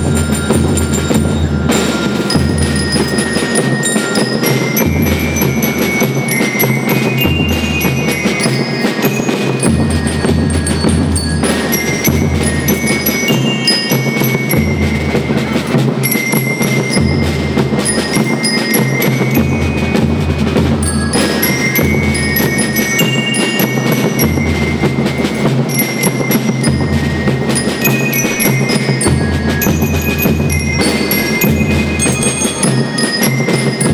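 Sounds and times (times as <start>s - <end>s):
bell lyres melody: 0.0s - 33.9s
snare drums: 0.0s - 33.9s.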